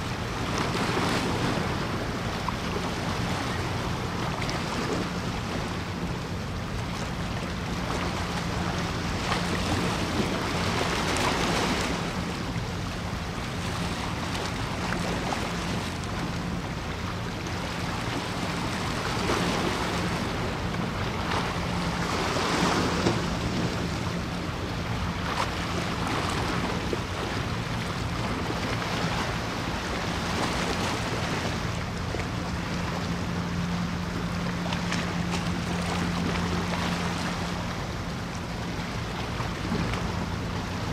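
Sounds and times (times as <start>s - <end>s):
sea water lapping: 0.0s - 40.9s.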